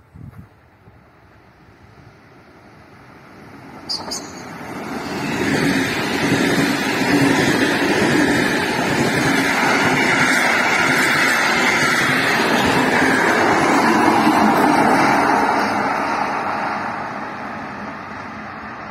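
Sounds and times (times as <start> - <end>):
train wheels rolling on rails: 0.1 - 18.9.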